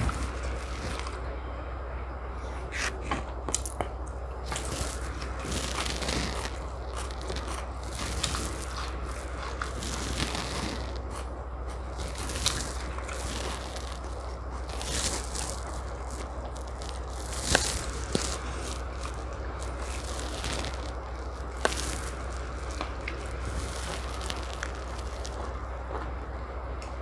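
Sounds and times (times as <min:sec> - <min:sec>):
person chewing food: 0:00.0 - 0:01.2, 0:02.4 - 0:27.0
steady low hum: 0:00.0 - 0:27.0.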